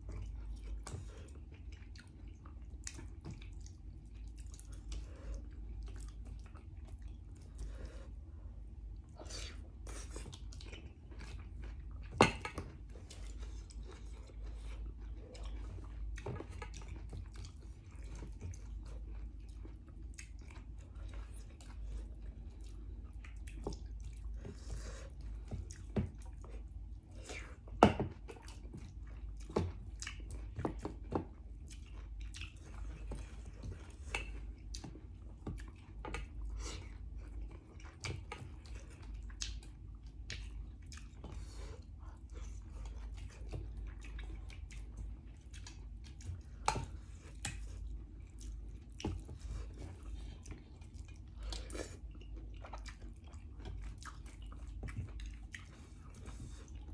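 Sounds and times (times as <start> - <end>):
person chewing: 0.1 - 56.9.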